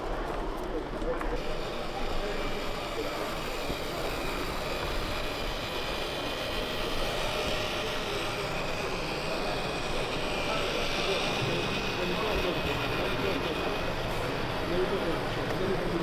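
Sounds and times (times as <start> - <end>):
mechanical drone with whining: 0.0 - 16.0.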